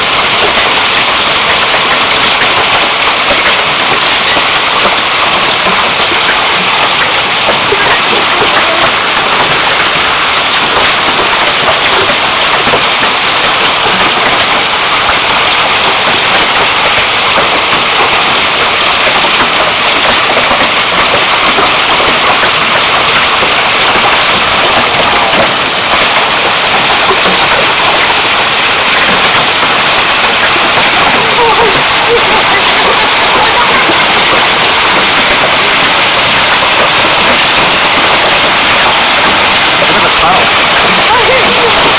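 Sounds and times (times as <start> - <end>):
hailstones clattering: 0.0 - 41.9.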